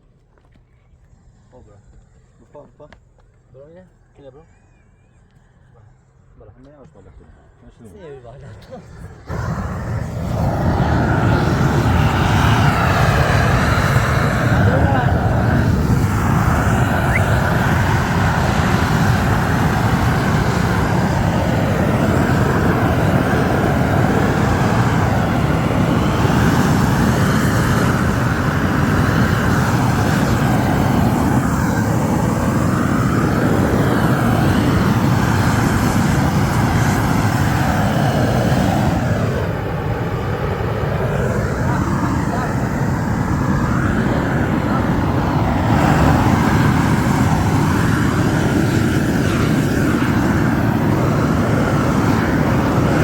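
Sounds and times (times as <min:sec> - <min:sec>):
gas torch roaring: 0:08.4 - 0:53.0.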